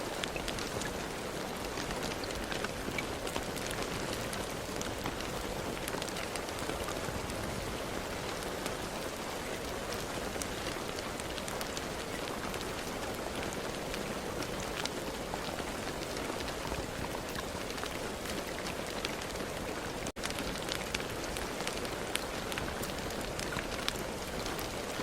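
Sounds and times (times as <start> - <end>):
rain pattering on a surface: 0.0 - 25.0.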